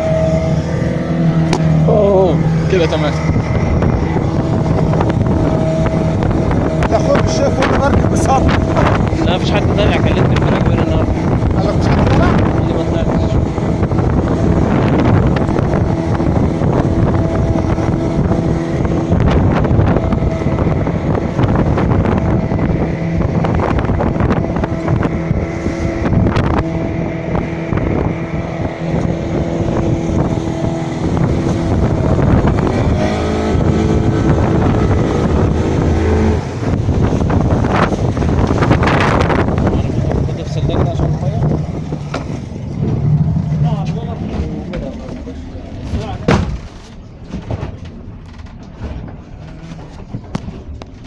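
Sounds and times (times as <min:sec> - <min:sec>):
boat engine running: 0:00.0 - 0:51.0
wind buffeting microphone: 0:00.0 - 0:51.0.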